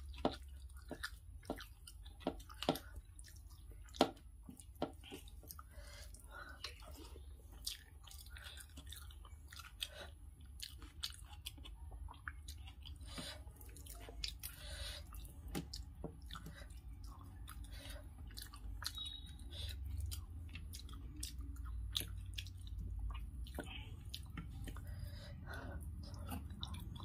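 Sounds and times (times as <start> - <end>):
chewing and wet mouth sounds: 0.0 - 27.0
faint low hum: 0.0 - 27.0.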